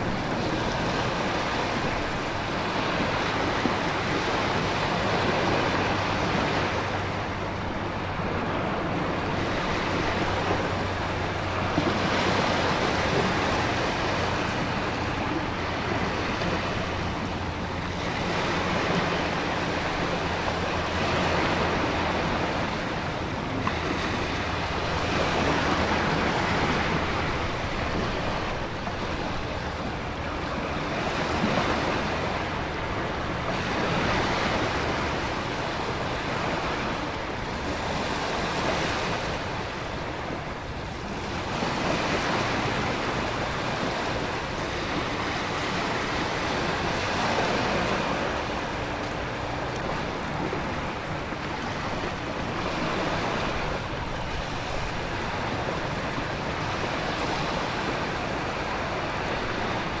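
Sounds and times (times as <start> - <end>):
ocean waves surging: 0.0 - 60.0
wind: 0.0 - 60.0.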